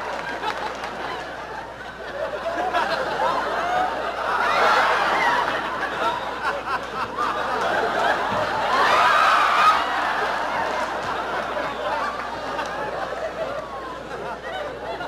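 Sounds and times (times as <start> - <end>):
audience laughing: 0.0 - 15.0.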